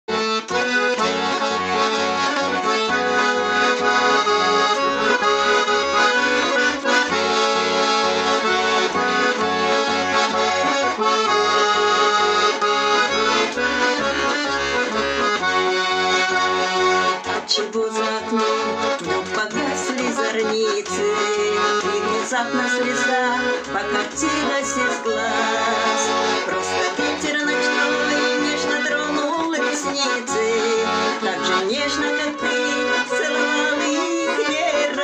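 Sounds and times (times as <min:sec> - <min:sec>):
button accordion melody: 0:00.0 - 0:35.0.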